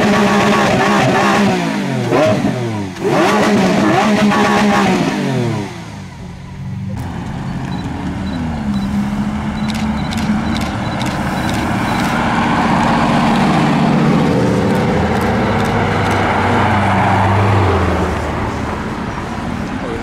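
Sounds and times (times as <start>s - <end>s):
car engines at low revs: 0.0s - 20.0s.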